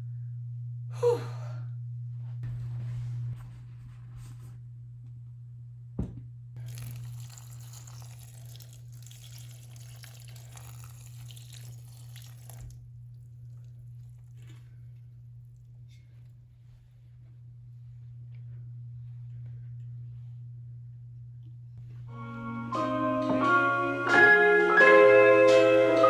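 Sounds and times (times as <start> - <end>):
steady low hum: 0.0 - 23.2.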